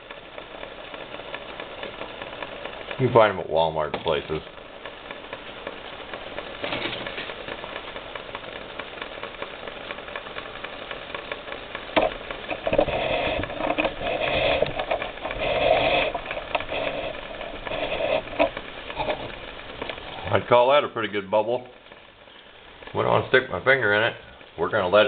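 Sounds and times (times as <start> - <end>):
stove hiss: 0.0 - 25.0.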